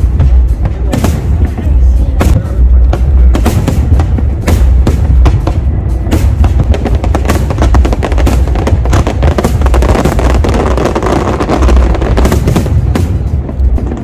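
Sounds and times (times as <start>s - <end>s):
fireworks cracking and booming: 0.0s - 14.0s
music playing: 0.0s - 14.0s.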